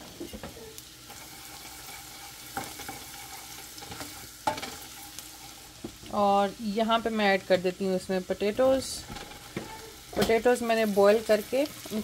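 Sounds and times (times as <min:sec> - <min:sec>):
onion sizzling in a saucepan: 0:00.0 - 0:12.0.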